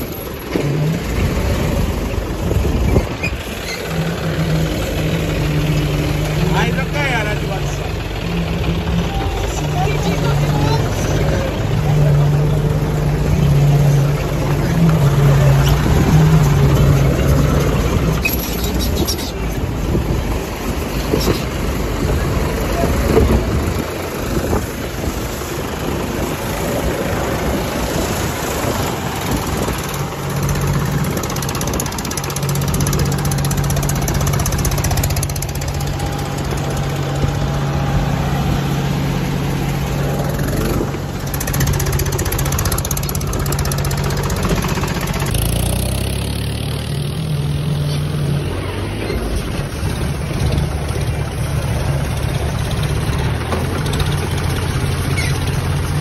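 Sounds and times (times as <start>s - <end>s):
tractor diesel engines under load: 0.0s - 56.0s.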